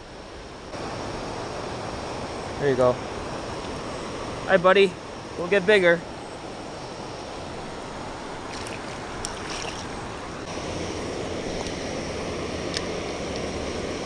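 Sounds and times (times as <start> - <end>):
rain hissing: 0.0 - 14.0
river water flowing: 0.0 - 14.0.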